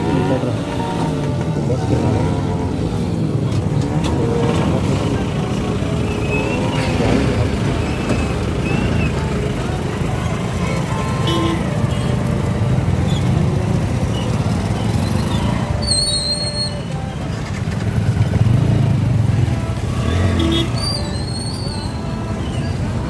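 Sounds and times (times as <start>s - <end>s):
vehicle engines idling: 0.0s - 23.0s.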